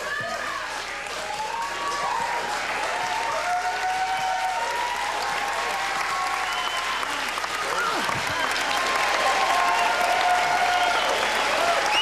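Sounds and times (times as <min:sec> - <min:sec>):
spectators clapping and cheering: 0:00.0 - 0:12.0.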